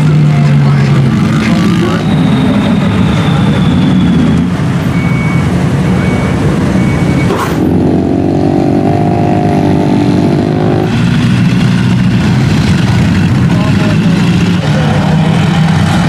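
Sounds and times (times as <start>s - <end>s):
muffled engine drone: 0.0s - 16.0s
vehicle engines running loudly: 0.0s - 16.0s.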